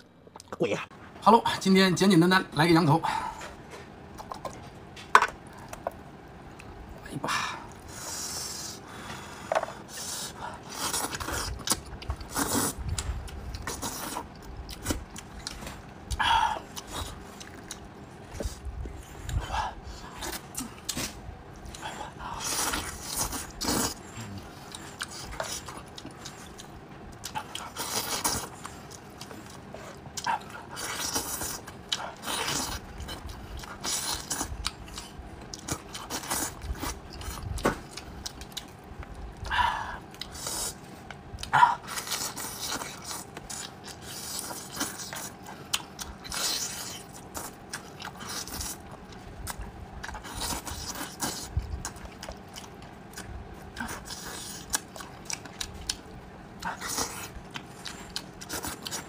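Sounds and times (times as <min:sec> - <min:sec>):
wet chewing and sucking: 0:09.6 - 0:59.0.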